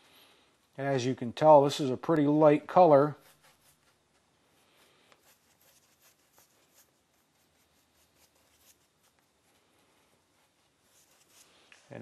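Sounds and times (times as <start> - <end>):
faint paintbrush strokes: 0.0 - 12.0.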